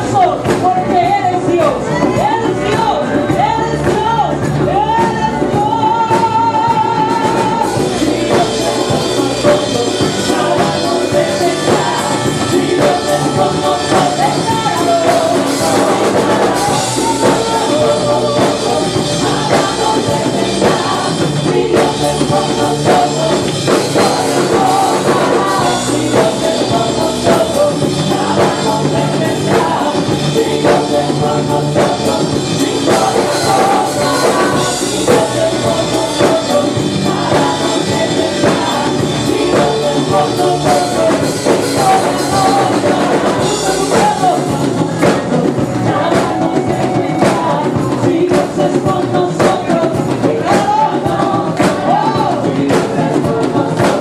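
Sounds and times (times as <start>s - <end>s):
full band with drums: 0.0s - 54.0s
people singing: 0.0s - 54.0s.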